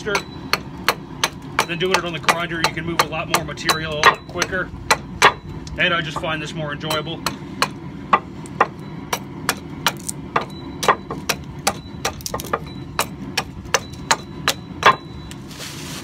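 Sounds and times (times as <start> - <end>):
hatchet chopping wood: 0.0 - 5.4, 6.9 - 15.0.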